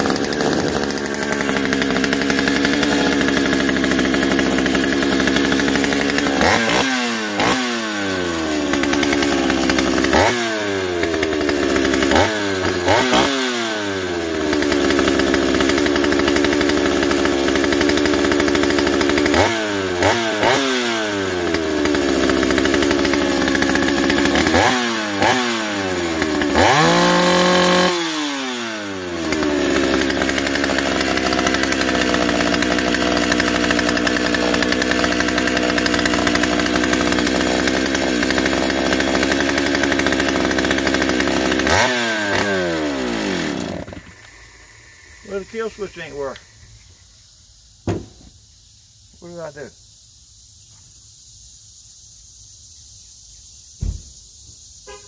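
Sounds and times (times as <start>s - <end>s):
chainsaw engine revving and idling: 0.0s - 46.9s.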